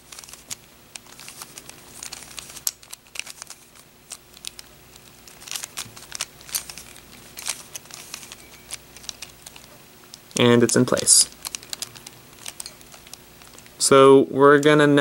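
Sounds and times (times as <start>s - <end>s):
puzzle cube clicking and rattling: 0.0s - 13.8s.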